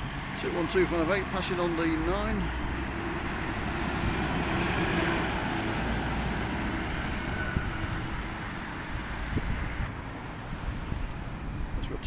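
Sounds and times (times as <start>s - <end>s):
bus driving past: 0.0s - 11.8s.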